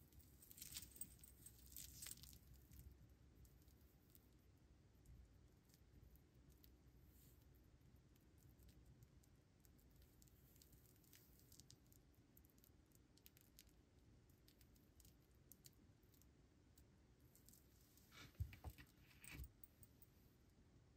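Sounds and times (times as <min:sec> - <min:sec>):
faint room hum: 0:00.0 - 0:20.9.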